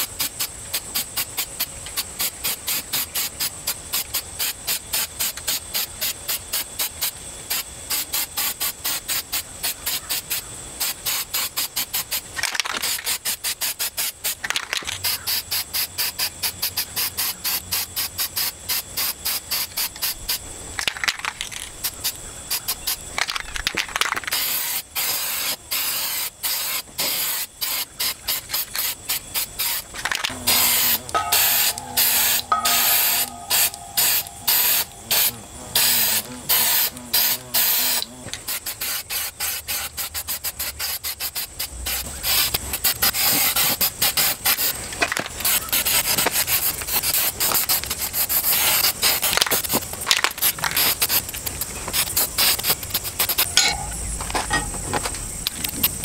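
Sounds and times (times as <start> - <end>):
spray paint can hissing: 0.0 - 53.6.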